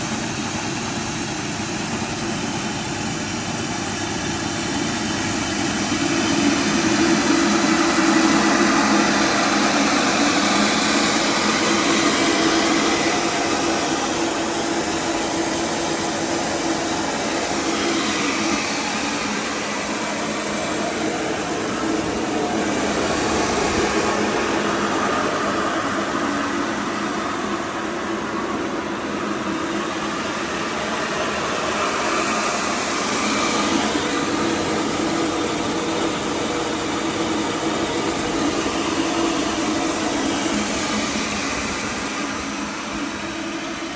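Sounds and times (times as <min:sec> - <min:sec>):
milling machine whirring: 0:00.0 - 0:43.9.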